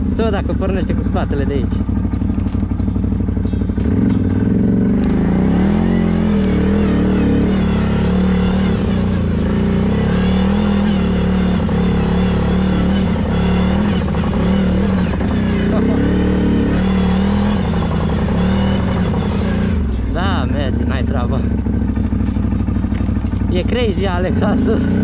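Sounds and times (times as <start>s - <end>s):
atv engine revving under load: 0.0s - 25.0s.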